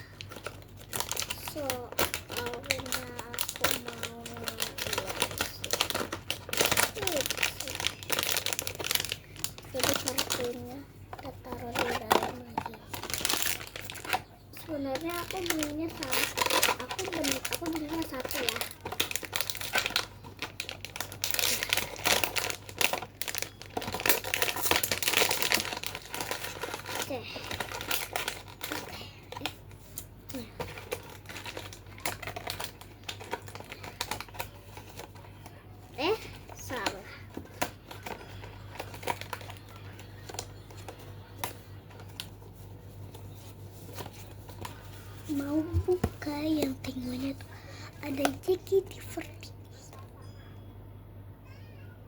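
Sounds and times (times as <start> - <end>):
packaging crinkling and rustling: 0.0 - 49.4
faint steady hum: 0.0 - 52.0.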